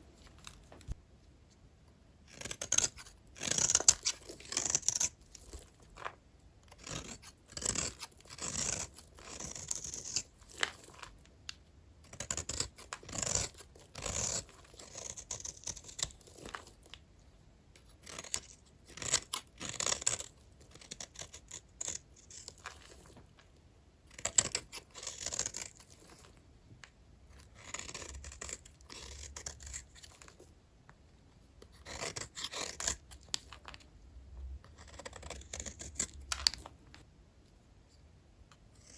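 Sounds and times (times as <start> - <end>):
blade cutting dry soap: 2.2 - 17.0, 17.8 - 26.4, 27.2 - 30.6, 31.5 - 33.9, 34.6 - 37.1, 38.5 - 38.9.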